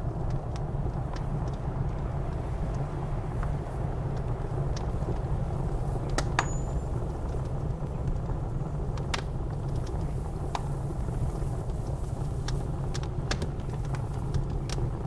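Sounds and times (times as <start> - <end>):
fire popping: 0.0 - 15.0
low rumble of blizzard wind: 0.0 - 15.0
wood fire crackling: 0.0 - 15.0.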